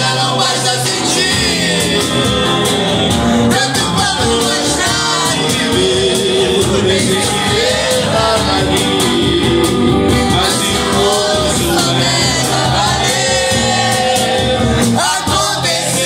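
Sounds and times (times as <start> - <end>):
person singing: 0.0 - 16.0
steady percussive beat: 0.0 - 16.0
strummed guitars: 0.0 - 16.0.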